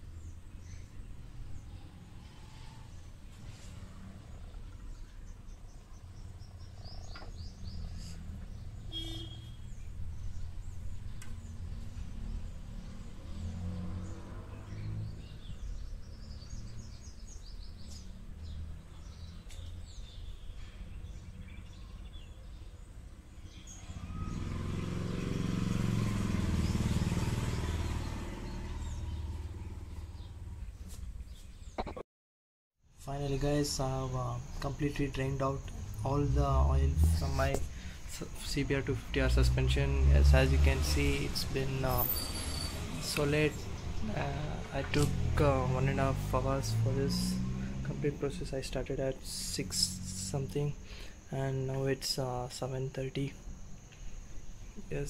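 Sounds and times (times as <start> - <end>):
birds chirping: 0.0 - 32.0, 33.1 - 55.0.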